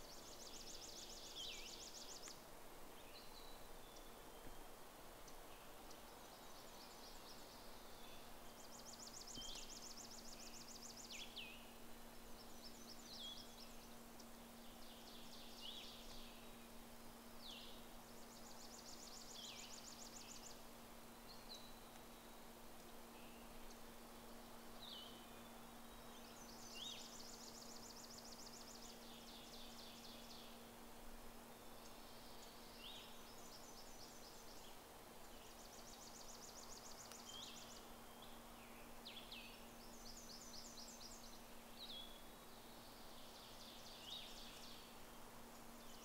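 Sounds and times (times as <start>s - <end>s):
low steady hum: 0.0s - 46.0s
songbird trills: 0.0s - 46.0s.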